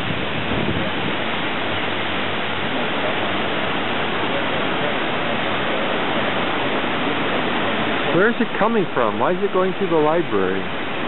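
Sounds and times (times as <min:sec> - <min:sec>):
water rushing into river: 0:00.0 - 0:11.0.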